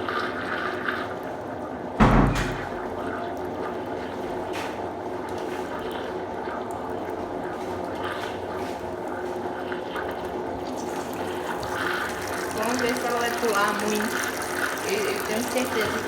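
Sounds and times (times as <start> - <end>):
water rushing in washing machine: 0.0 - 16.0.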